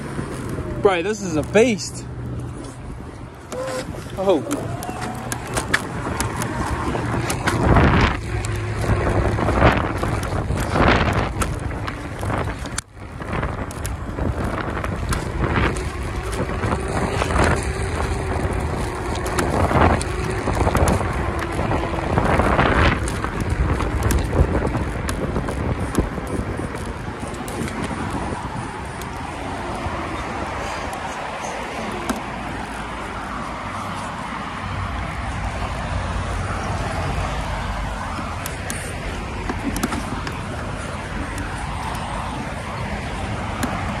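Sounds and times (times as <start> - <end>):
clicks over path joints: 0.0 - 44.0
scooter tyre rumble on concrete: 0.0 - 44.0
wind rushing over microphone: 0.0 - 44.0.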